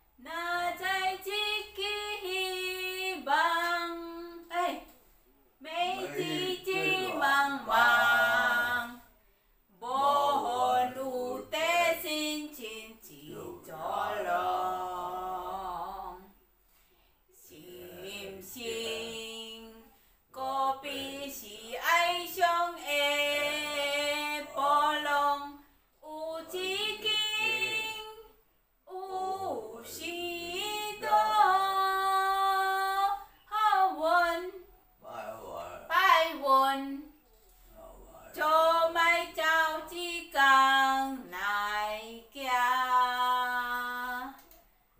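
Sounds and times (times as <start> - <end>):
woman singing unaccompanied: 0.2 - 4.9, 5.6 - 9.1, 9.8 - 16.3, 17.4 - 34.7, 35.9 - 37.1, 38.3 - 44.6.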